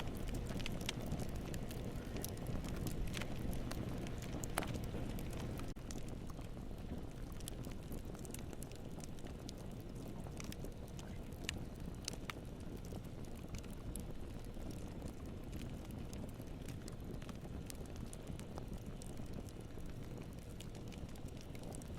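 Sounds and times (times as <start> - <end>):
fire popping and crackling: 0.0 - 21.9
low rumble of flames: 0.0 - 21.9.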